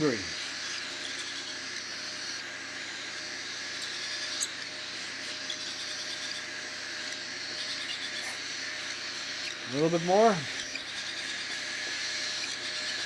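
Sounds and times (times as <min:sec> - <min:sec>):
baby cockatiels begging and screaming: 0:00.0 - 0:13.0.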